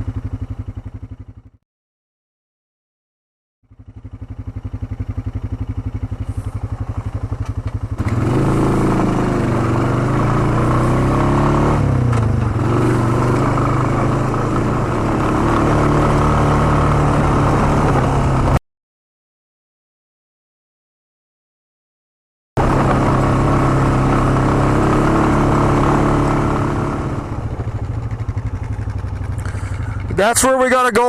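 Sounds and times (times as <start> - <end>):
atv engine idling: 0.0 - 1.6, 3.6 - 18.6, 22.6 - 31.0
atv engine riding: 0.0 - 1.6, 3.6 - 18.6, 22.6 - 31.0.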